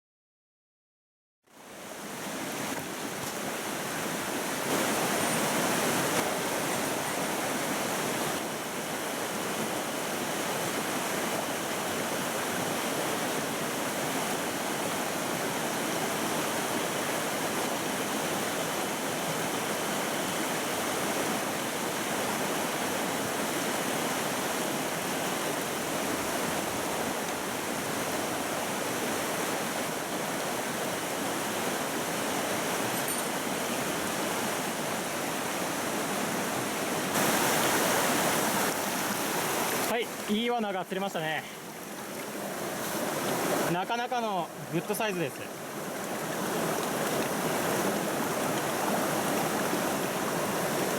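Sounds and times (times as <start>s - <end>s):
stream rushing over rocks: 1.5s - 50.9s.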